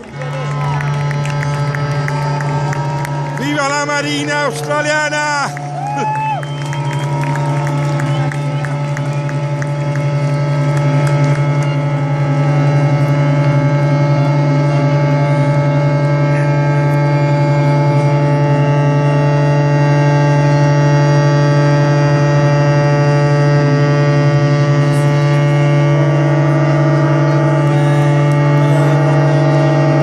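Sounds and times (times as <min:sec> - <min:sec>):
ships' horns sounding chord: 0:00.0 - 0:30.0.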